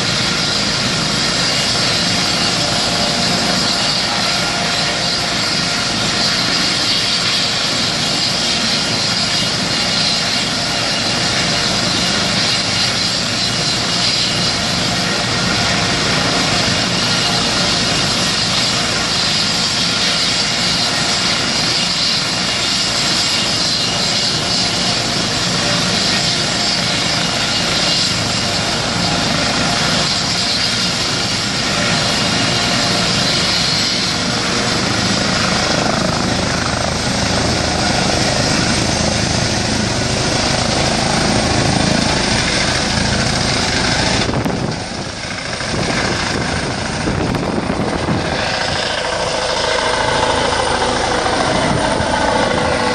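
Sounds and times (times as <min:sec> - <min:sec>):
helicopter turbine whine and rotor: 0:00.0 - 0:52.9.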